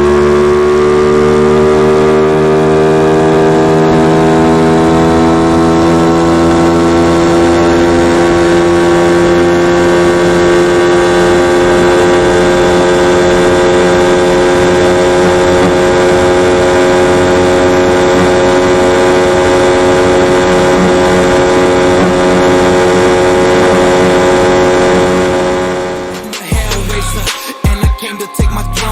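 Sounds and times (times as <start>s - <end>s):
motorcycle engine at high revs: 0.0s - 26.3s.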